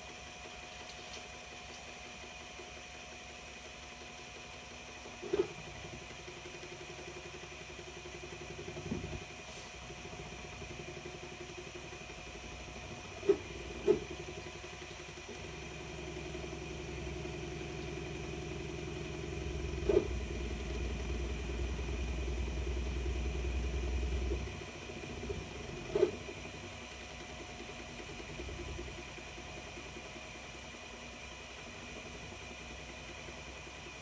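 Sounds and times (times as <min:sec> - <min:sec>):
cooling fan hum: 0:00.0 - 0:34.0.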